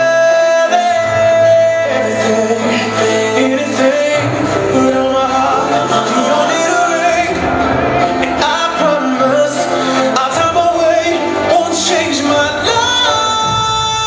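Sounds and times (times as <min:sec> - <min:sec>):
r and b song with vocals: 0:00.0 - 0:14.0.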